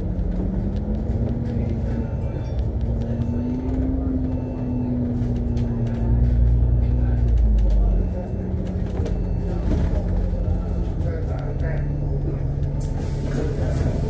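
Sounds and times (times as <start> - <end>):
bus drivetrain whine: 0.0 - 14.0
bus engine and road rumble: 0.0 - 14.0.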